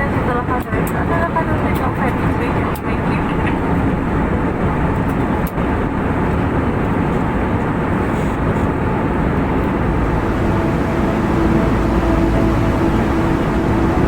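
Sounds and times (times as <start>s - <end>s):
airliner cabin noise: 0.0s - 14.0s.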